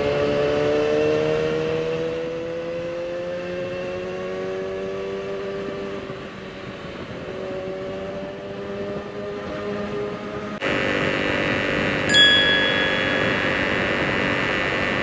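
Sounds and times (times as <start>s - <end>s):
motorcycle engine cruising: 0.0s - 15.0s
road and wind noise: 0.0s - 15.0s.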